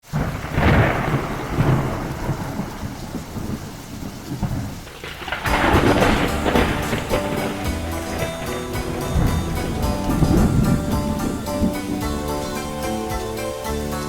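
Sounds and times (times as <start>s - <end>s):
thunder rumbling: 0.0s - 13.5s
rain falling: 0.0s - 14.0s.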